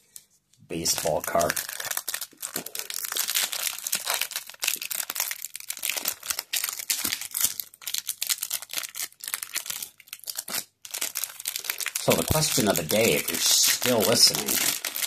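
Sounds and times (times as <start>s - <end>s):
wax paper wrapper crinkling and tearing: 0.1s - 15.0s.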